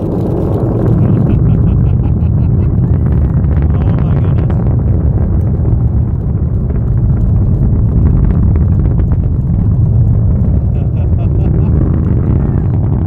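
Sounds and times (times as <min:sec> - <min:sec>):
distant rocket engine rumble: 0:00.0 - 0:13.0.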